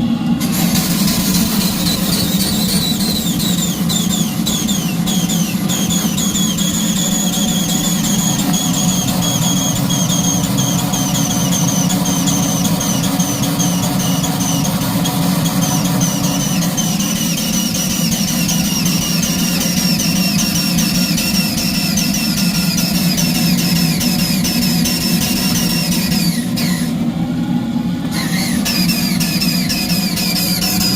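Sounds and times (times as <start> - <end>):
steam engine running: 0.0 - 30.9
high wobbling whistle: 0.4 - 27.0, 28.1 - 30.9.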